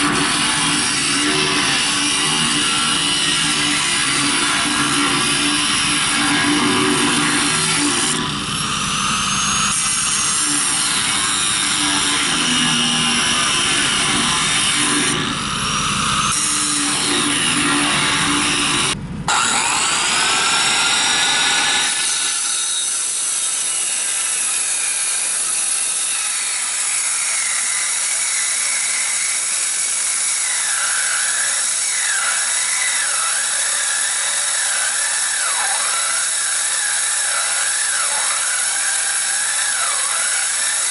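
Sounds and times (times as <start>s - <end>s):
angle grinder cutting steel: 0.0s - 40.9s.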